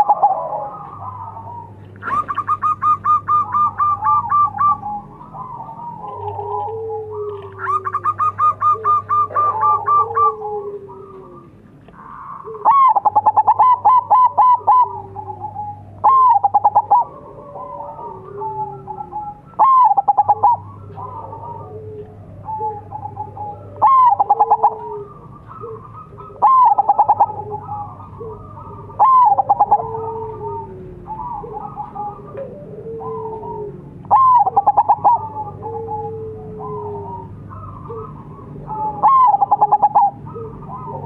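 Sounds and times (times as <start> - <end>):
dove cooing: 0.0 - 41.0.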